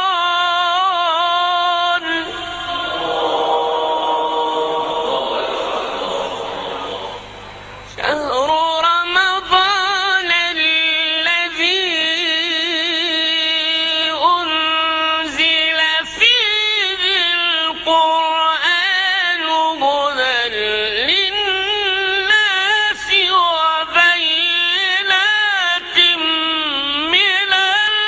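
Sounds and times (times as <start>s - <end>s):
person reciting melodically: 0.0s - 7.2s, 7.9s - 28.0s.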